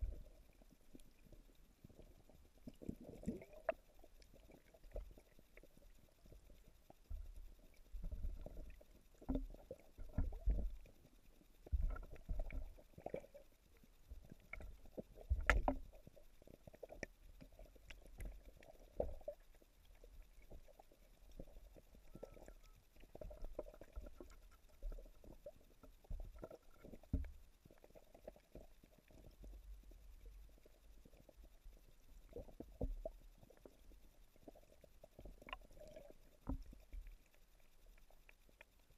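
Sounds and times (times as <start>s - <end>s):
muffled underwater rumbling: 0.0s - 37.3s.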